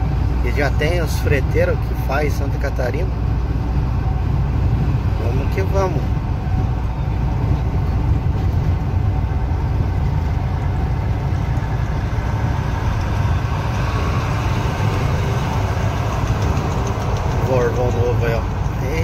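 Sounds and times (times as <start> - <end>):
truck engine drone from cab: 0.0 - 19.0.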